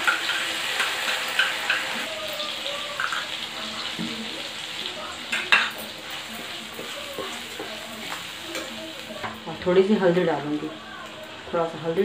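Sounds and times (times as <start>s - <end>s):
masala sizzling in hot oil: 0.0s - 12.0s.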